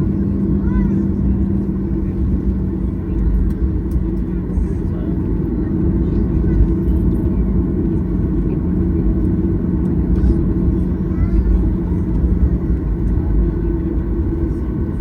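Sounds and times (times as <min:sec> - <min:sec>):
jet engines idling in cabin: 0:00.0 - 0:15.0.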